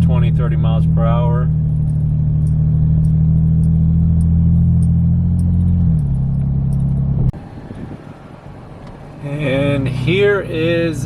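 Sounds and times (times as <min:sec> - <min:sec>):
deep exhaust drone: 0:00.0 - 0:11.0.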